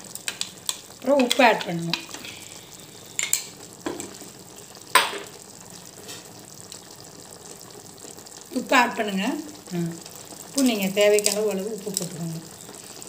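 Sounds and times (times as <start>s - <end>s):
gravy sizzling and bubbling in pan: 0.0s - 13.0s.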